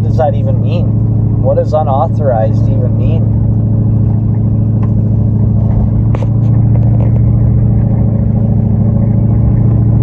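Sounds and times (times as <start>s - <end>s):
pickup truck engine running: 0.0s - 10.0s.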